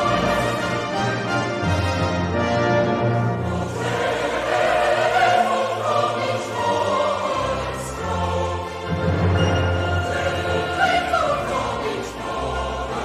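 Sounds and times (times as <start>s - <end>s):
choir singing with orchestra: 0.0s - 13.0s.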